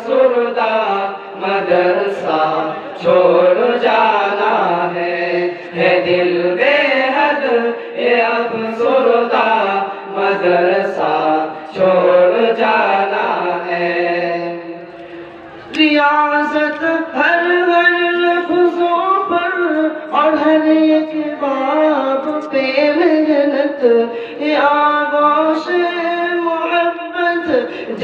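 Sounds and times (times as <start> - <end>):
young male voices singing: 0.0 - 28.0.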